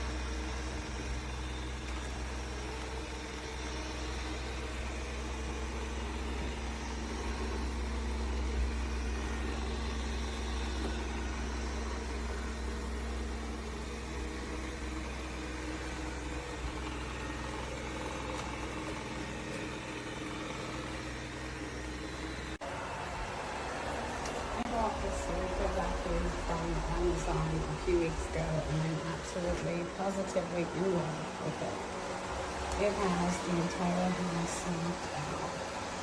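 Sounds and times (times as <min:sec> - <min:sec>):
robot vacuum motor hum: 0:00.0 - 0:36.0.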